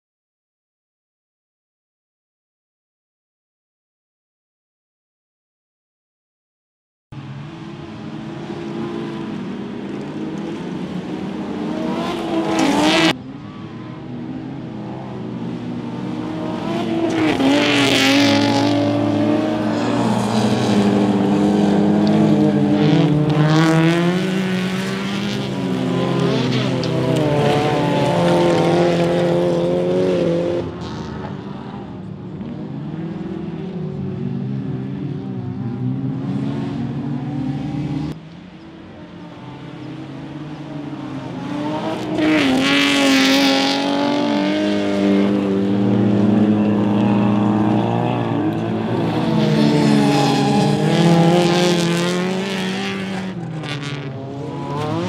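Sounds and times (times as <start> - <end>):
race car engines revving: 7.2 - 55.0.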